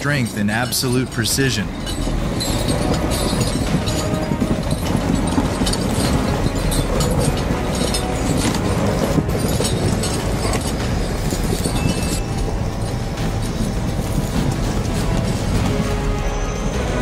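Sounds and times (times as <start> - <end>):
diesel engine running: 0.0 - 17.0
metallic chain clinks: 0.0 - 17.0.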